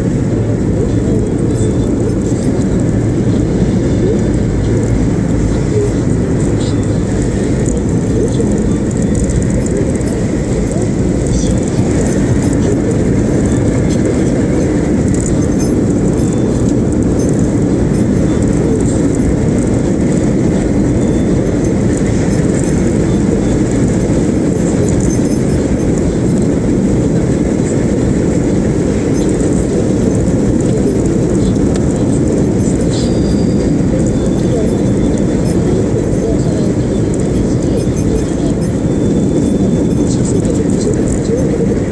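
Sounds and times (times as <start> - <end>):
car interior road rumble: 0.0 - 41.9.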